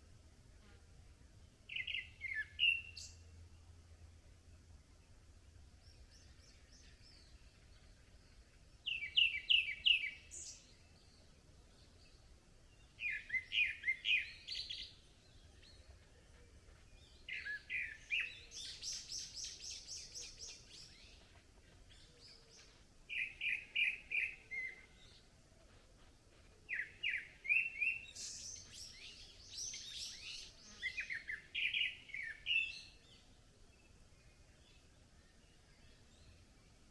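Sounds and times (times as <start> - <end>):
songbirds chirping: 0.0 - 36.9.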